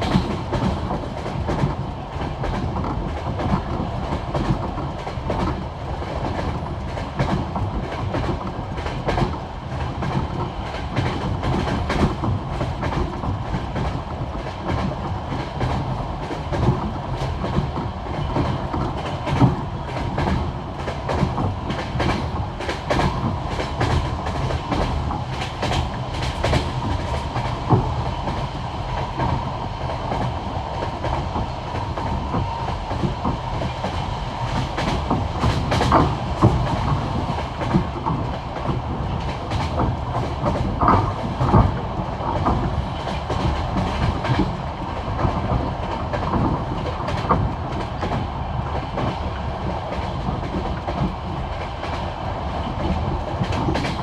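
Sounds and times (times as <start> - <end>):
train wheels clickety-clack on rails: 0.0 - 54.0.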